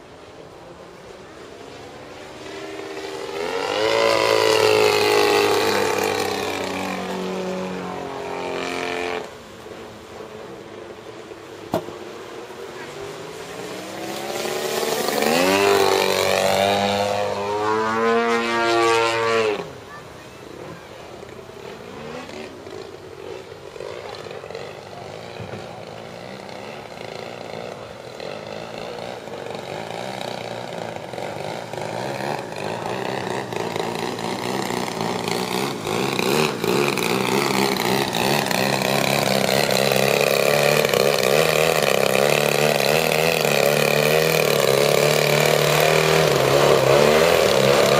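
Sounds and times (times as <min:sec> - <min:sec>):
model plane engine in flight: 0:00.0 - 0:47.9.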